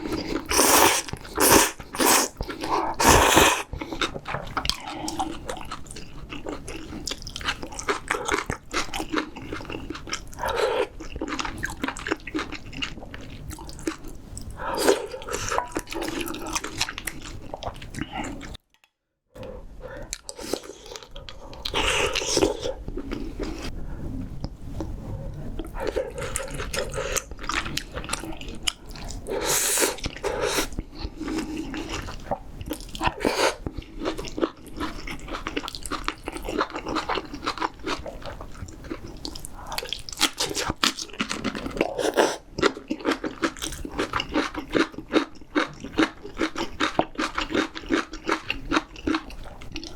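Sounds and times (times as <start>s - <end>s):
chewing and crunching food: 0.0s - 49.9s.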